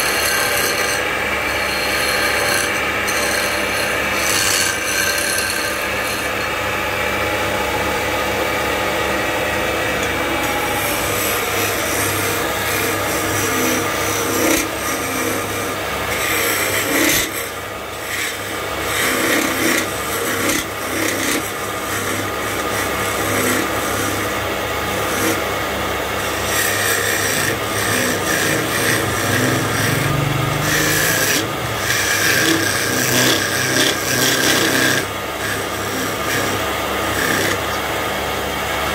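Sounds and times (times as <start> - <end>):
chisel scraping spinning wood: 0.0 - 38.2
lathe motor hum: 0.0 - 38.9.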